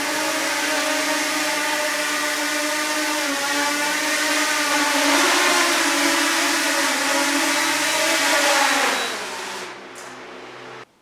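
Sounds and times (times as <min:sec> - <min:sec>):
drone propellers whining: 0:00.0 - 0:10.9.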